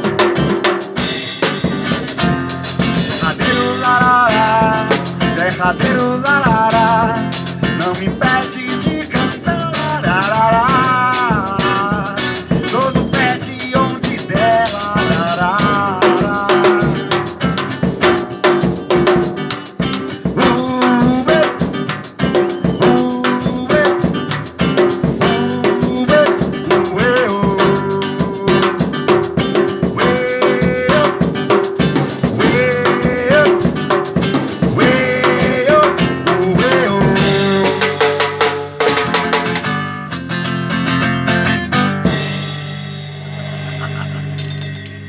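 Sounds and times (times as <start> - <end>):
acoustic guitar: 0.0 - 45.0
drum kit beat: 0.0 - 45.0.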